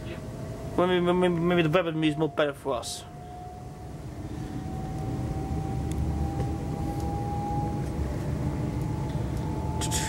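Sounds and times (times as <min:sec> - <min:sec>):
traction motor whine rising: 0:00.0 - 0:10.0.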